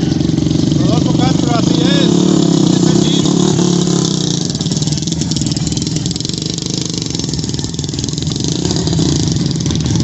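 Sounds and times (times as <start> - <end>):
loud engine rumbling at low revs: 0.0 - 10.0.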